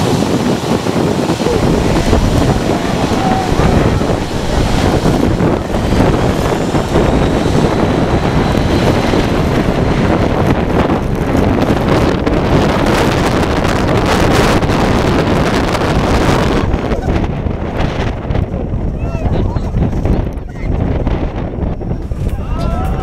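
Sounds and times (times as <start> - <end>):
jet engine roar: 0.0 - 18.6
wind buffeting microphone: 0.0 - 23.0.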